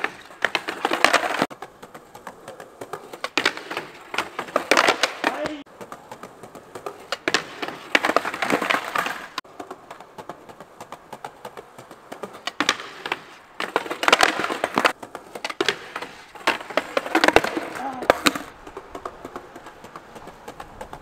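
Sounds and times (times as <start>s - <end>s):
boards clattering on stone paving: 0.0s - 21.0s
skateboards clacking on wood: 0.0s - 21.0s.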